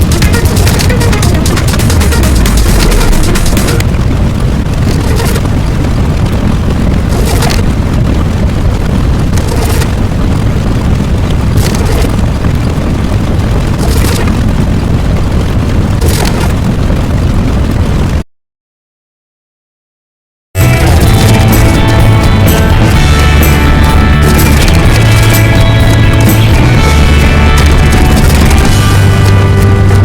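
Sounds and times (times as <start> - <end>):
low rumbling noise: 0.0 - 18.2, 20.6 - 30.0.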